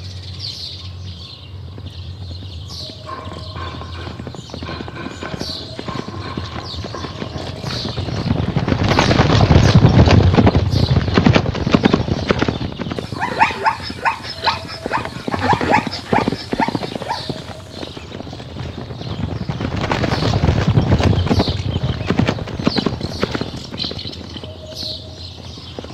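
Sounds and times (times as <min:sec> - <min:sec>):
hoofbeats galloping on dry ground: 0:00.1 - 0:25.9.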